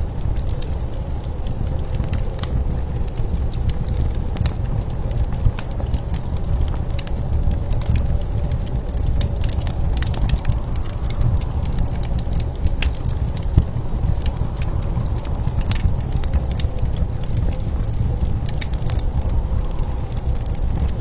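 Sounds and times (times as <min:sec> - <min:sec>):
low rumble of blizzard wind: 0:00.0 - 0:21.0
wood fire crackling and popping: 0:00.0 - 0:21.0.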